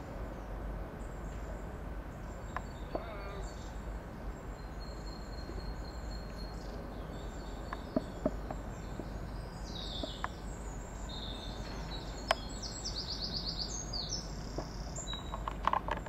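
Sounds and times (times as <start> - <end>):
low outdoor rumble: 0.0 - 16.0
songbird singing: 0.0 - 16.0.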